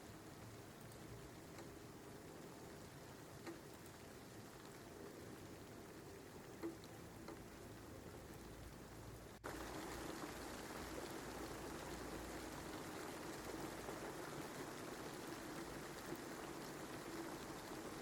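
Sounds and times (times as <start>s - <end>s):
faint steady rain: 0.0s - 18.0s.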